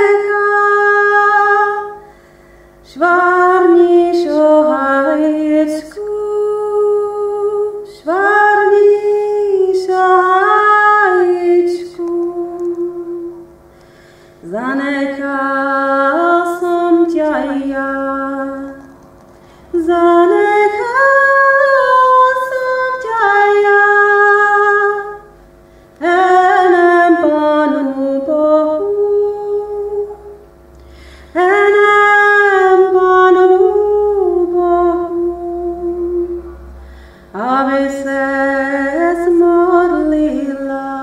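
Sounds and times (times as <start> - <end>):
woman singing a cappella: 0.0 - 13.6, 14.4 - 19.0, 19.7 - 25.4, 26.0 - 30.6, 31.2 - 41.0.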